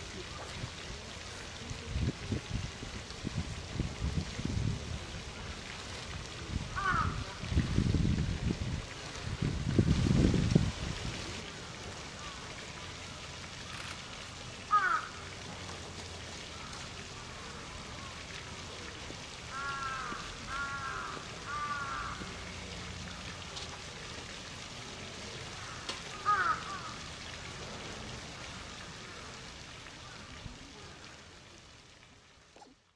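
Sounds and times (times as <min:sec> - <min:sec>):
fountain water rushing: 0:00.0 - 0:32.9.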